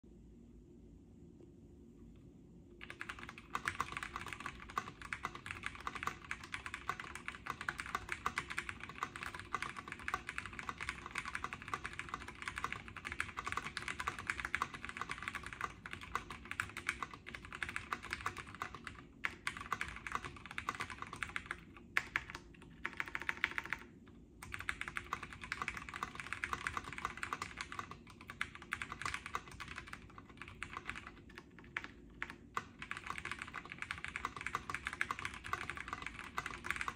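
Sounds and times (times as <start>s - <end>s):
fast typing on mechanical keyboard: 2.8s - 36.9s.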